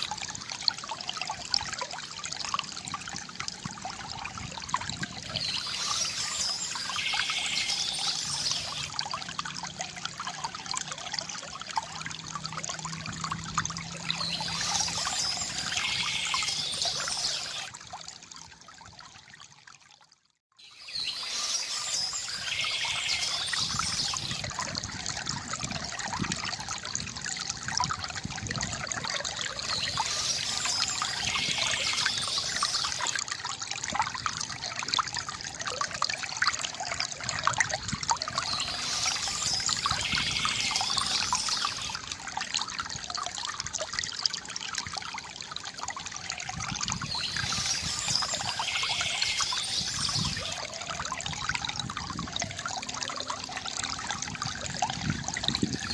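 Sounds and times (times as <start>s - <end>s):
water trickling from fountain spout: 0.0s - 55.9s.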